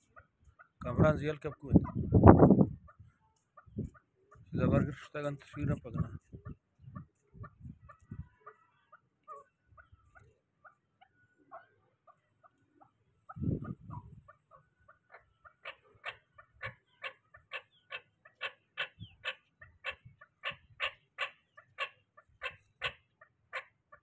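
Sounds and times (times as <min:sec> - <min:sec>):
partridge calling: 0:00.0 - 0:24.0.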